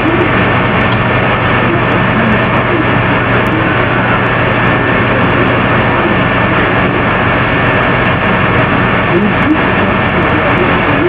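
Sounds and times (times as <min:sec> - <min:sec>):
faint steady hum: 0:00.0 - 0:11.0
loud static hiss: 0:00.0 - 0:11.0.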